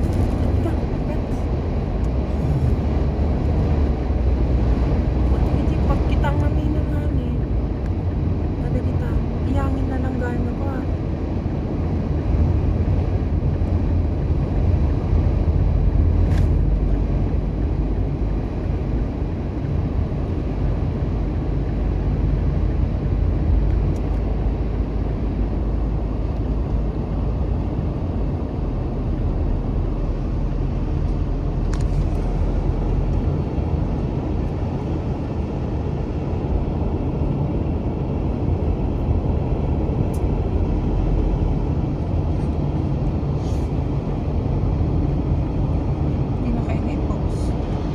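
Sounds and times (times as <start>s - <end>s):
car road noise drone: 0.0s - 47.9s.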